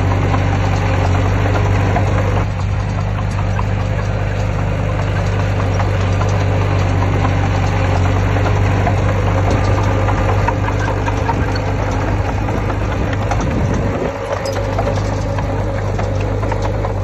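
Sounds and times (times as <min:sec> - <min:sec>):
heavy diesel engine running: 0:00.0 - 0:17.0
metallic clanks and rattles: 0:00.0 - 0:17.0.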